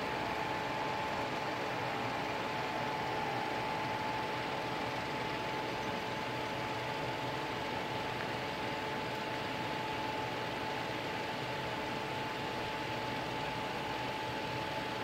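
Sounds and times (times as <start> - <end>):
steady mechanical hum with hiss: 0.0 - 15.0.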